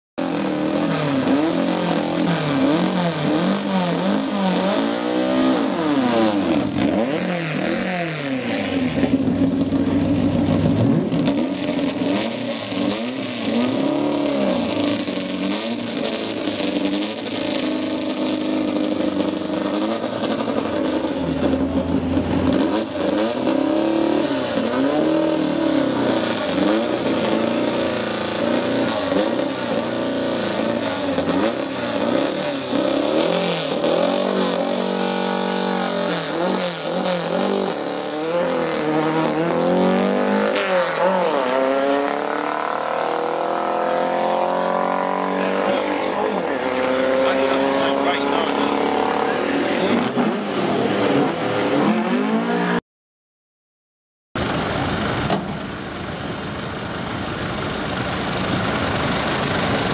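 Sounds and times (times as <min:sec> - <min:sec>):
car engine revving: 0:00.2 - 0:52.8.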